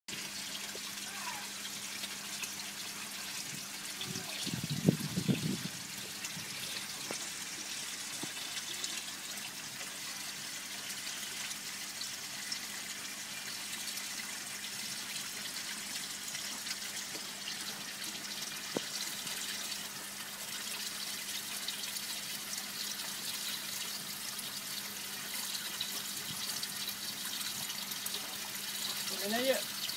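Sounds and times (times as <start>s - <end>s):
water splashing and trickling: 0.1s - 29.9s.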